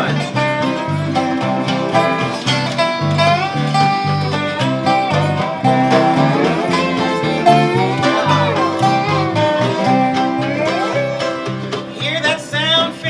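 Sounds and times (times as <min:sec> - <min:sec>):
bluegrass band playing: 0:00.0 - 0:13.0.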